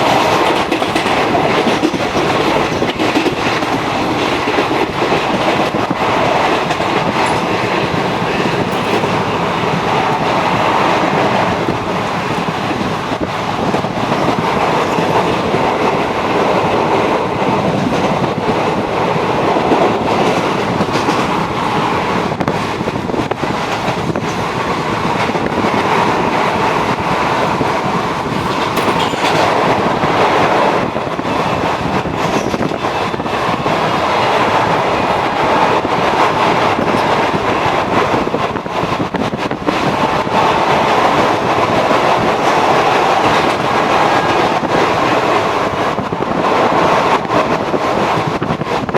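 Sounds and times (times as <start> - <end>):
train wheels rumbling on track: 0.0 - 48.9
wheels clacking over rail joints: 0.0 - 48.9.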